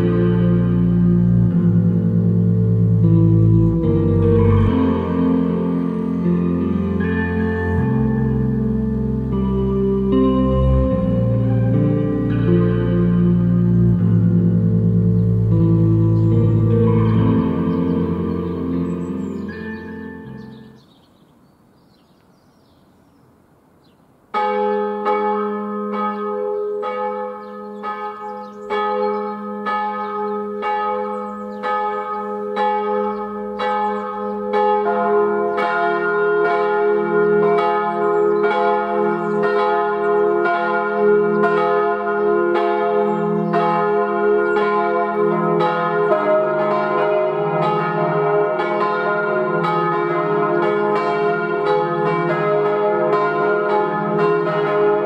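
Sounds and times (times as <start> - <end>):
swinging church bells ringing: 0.0 - 20.9, 24.3 - 55.0.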